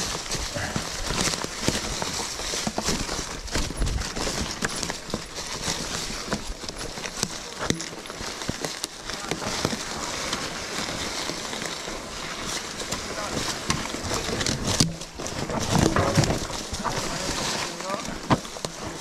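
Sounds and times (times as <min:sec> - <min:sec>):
bike tyres rolling over leaves: 0:00.0 - 0:19.0.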